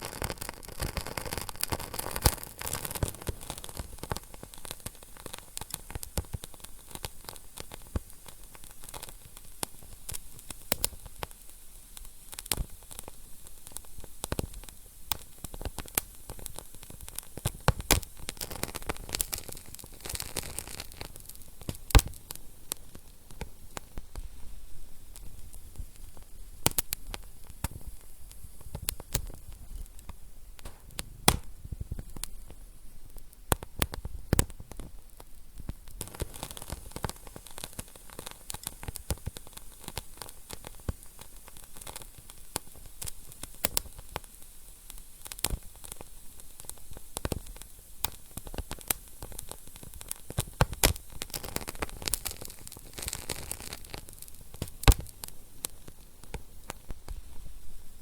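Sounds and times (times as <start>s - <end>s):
fire crackling and popping: 0.0s - 58.0s
low hiss of fire: 0.0s - 58.0s.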